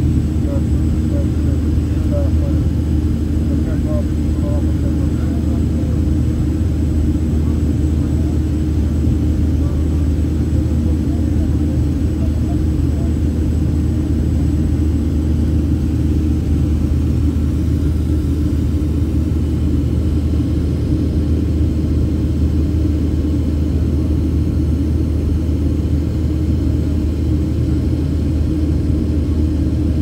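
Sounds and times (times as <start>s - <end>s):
jet engine rumble in cabin: 0.0s - 30.0s.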